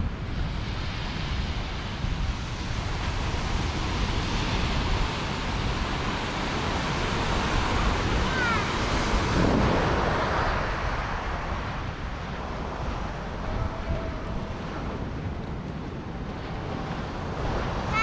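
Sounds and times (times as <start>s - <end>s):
surf breaking on shore: 0.0s - 18.0s
wind rumbling on microphone: 0.0s - 18.0s.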